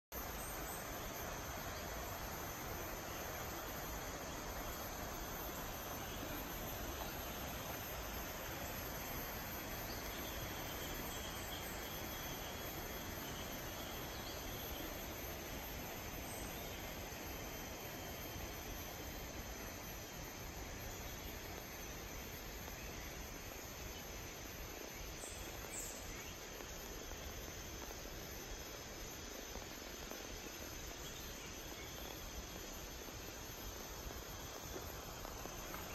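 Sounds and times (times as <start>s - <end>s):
background hiss: 0.0s - 35.9s
faint second insect tone: 0.2s - 35.9s
high-pitched insect drone: 0.2s - 35.9s.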